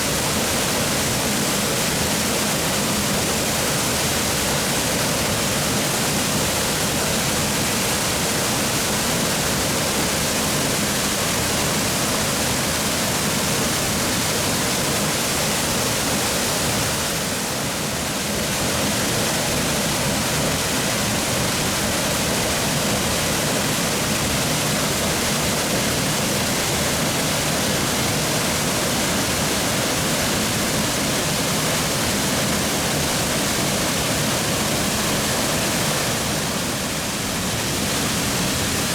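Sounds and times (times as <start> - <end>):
waterfall rushing onto rock: 0.0 - 38.9.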